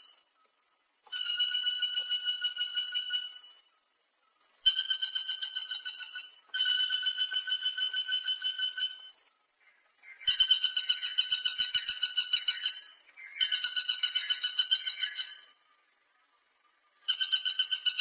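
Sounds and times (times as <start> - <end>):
woodpecker rattling call: 1.0 - 3.7, 4.6 - 15.7, 17.0 - 18.0.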